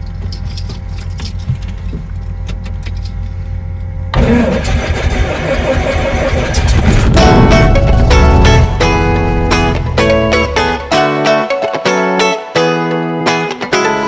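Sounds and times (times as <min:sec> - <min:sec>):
small aircraft engine running: 0:00.0 - 0:11.6.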